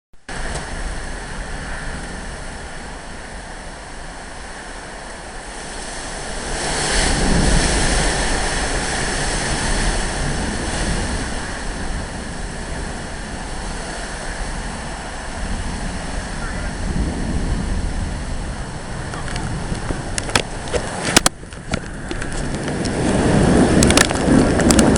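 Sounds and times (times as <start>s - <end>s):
storm wind buffeting microphone: 0.3s - 24.9s.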